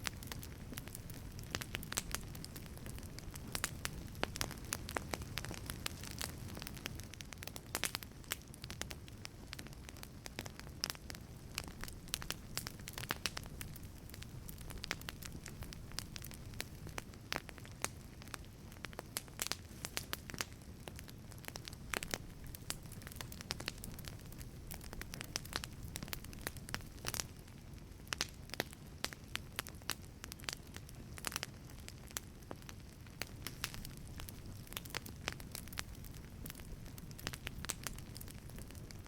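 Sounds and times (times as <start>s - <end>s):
low rumble of flame: 0.0s - 39.0s
wood fire crackling and popping: 0.0s - 39.0s.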